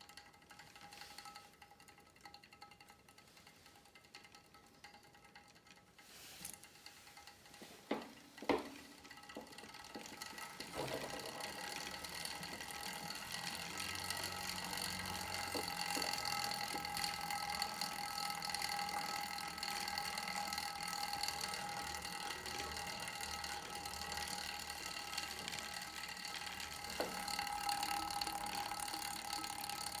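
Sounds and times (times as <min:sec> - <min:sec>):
exercise bike chain whine and rattle: 0:00.0 - 0:30.0.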